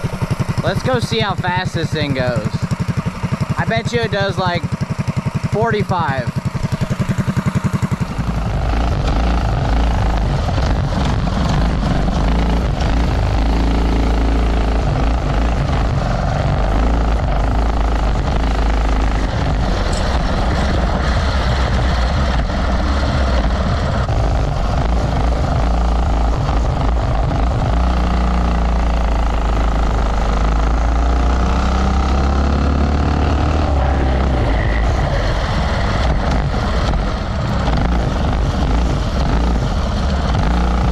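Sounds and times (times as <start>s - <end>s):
small engine running hard: 0.0s - 40.9s.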